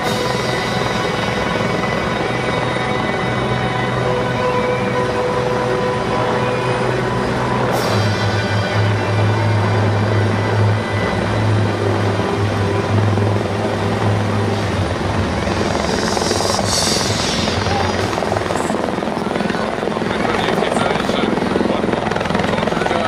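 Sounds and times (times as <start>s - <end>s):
helicopter hovering overhead: 0.0s - 23.0s.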